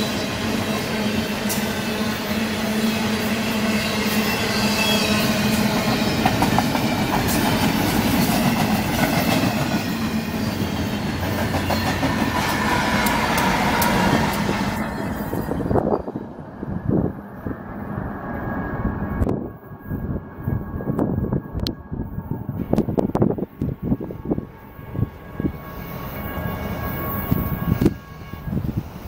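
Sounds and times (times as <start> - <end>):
freight train rumbling and rattling: 0.0 - 29.0.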